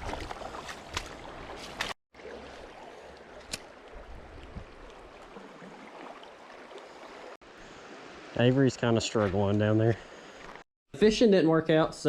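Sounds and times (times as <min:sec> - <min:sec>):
creek water running: 0:00.0 - 0:10.6.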